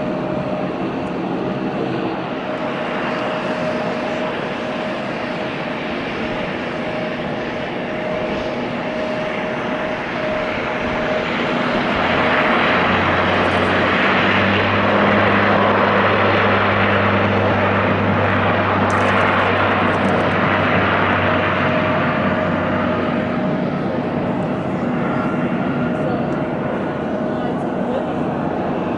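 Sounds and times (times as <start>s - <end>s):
turboprop airliner taking off: 0.0s - 28.9s.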